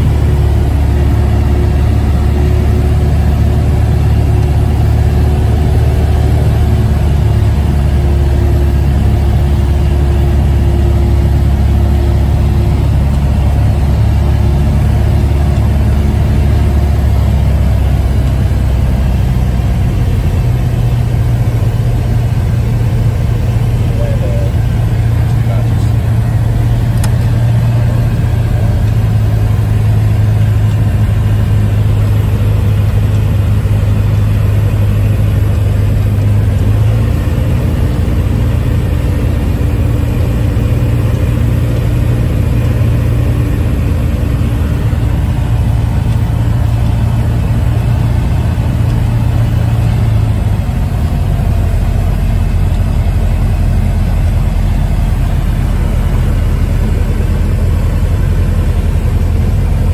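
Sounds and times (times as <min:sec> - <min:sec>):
light aircraft engine and propeller: 0:00.0 - 0:59.9.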